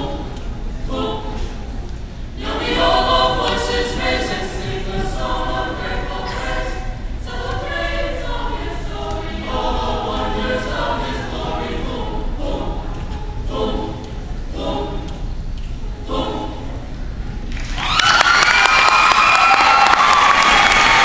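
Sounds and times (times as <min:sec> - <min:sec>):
choir singing sustained chords: 0:00.0 - 0:17.2.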